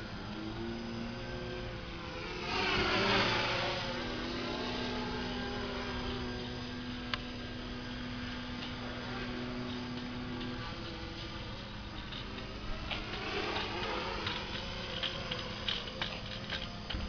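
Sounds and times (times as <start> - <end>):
model airplane motor droning: 0.0 - 17.0.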